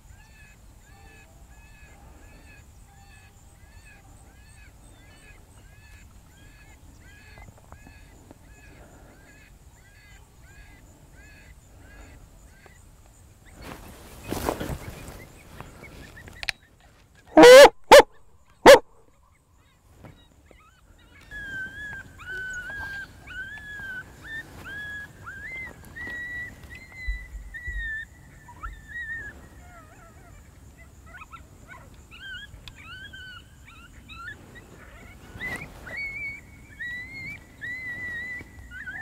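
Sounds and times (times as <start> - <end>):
coyote whimpers and yips: 0.1 - 12.8, 13.4 - 39.0.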